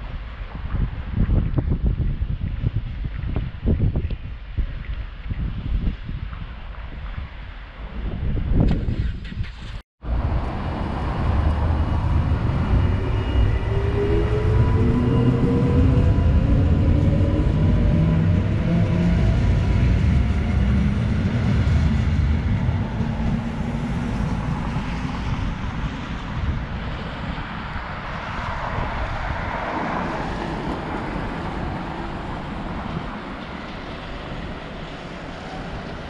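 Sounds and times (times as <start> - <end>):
train rolling rumble: 6.7 - 36.0.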